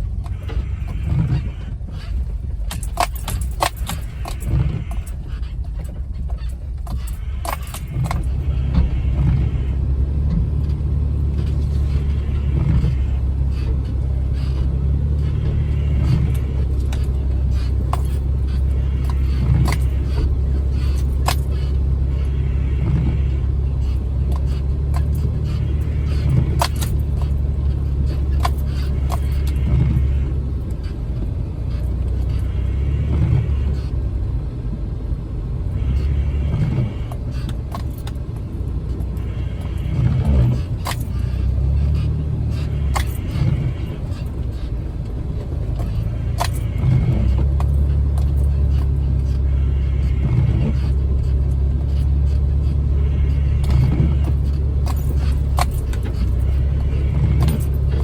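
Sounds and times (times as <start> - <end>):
knocks and rattles over bumps: 0.0 - 58.0
low engine drone: 0.0 - 58.0.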